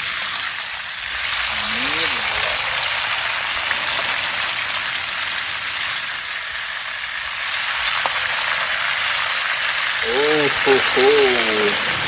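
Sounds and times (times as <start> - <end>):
oil sizzling while frying: 0.0 - 10.9.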